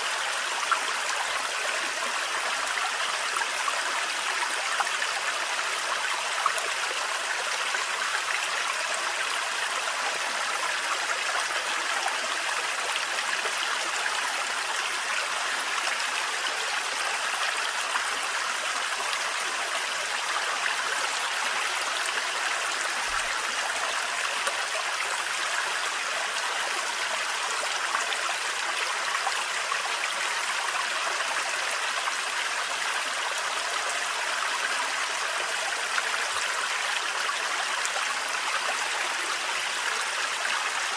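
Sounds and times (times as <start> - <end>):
small waterfall running: 0.0 - 40.9.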